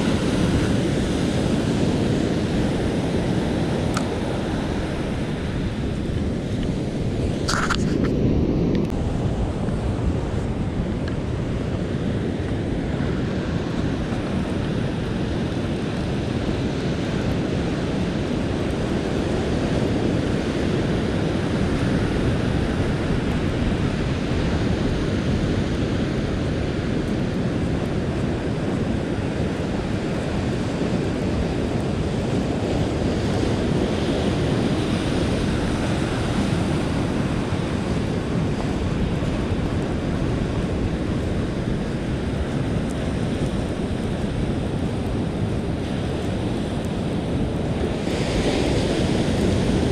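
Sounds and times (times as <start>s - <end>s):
ocean surf washing onto beach: 0.0s - 49.9s
wind buffeting microphone: 0.0s - 49.9s.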